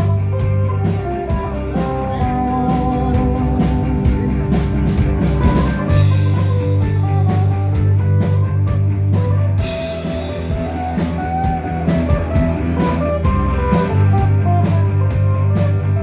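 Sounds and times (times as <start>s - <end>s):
bass line: 0.0s - 16.0s
electric guitar: 0.0s - 16.0s
steady drum beat: 0.0s - 16.0s.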